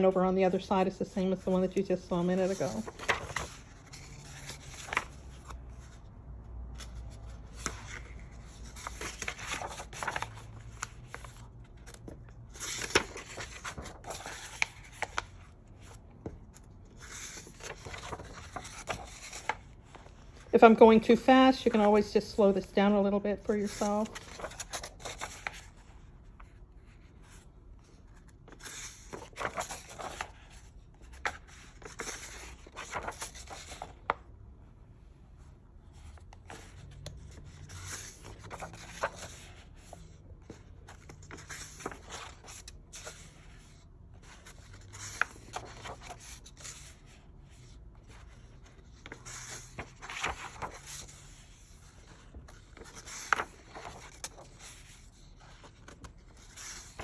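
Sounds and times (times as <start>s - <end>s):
book pages turning: 0.0s - 22.7s, 23.4s - 34.3s, 35.8s - 57.0s.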